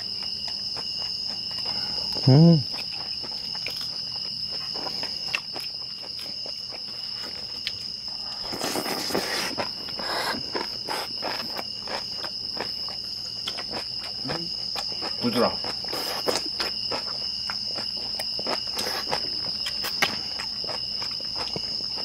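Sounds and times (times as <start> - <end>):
crickets chirping: 0.0 - 22.0
people chewing food: 0.0 - 22.0.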